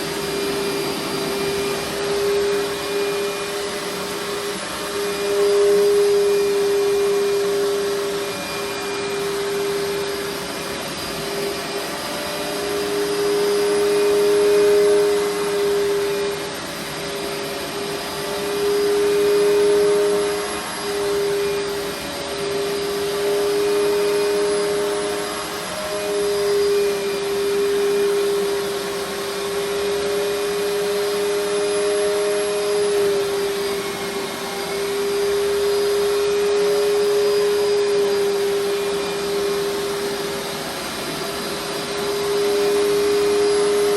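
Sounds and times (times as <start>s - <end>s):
carpet cleaner motor whining: 0.0s - 43.9s.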